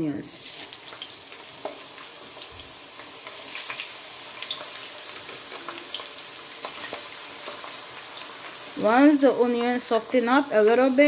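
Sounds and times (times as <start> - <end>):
onions sizzling in oil: 0.0 - 11.0
oil popping and crackling: 0.3 - 11.0.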